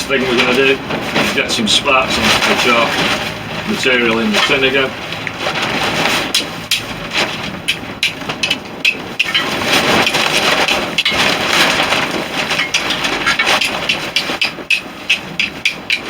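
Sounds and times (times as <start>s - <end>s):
tarp flapping: 0.0s - 16.0s.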